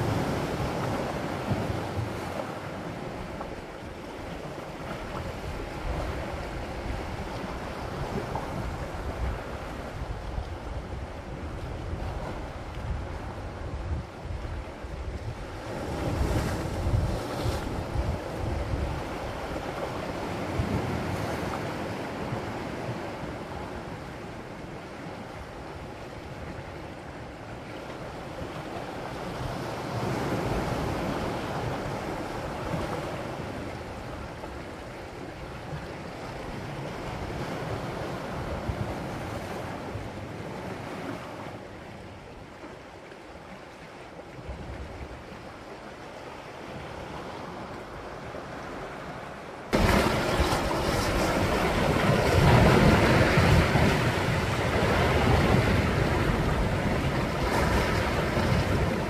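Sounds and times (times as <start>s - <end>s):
sea waves surging against rocks: 0.0s - 59.0s.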